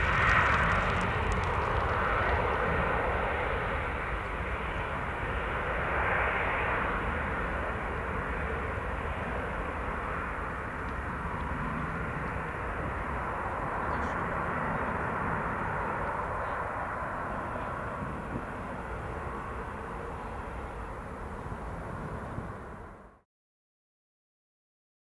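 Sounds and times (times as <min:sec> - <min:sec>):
jet engines roaring at takeoff: 0:00.0 - 0:23.2.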